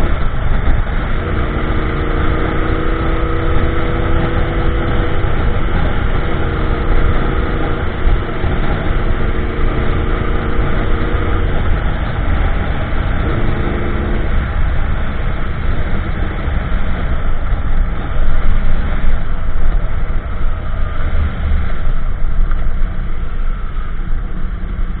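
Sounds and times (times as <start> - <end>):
motorcycle engine cruising: 0.0 - 25.0
road rush: 0.0 - 25.0.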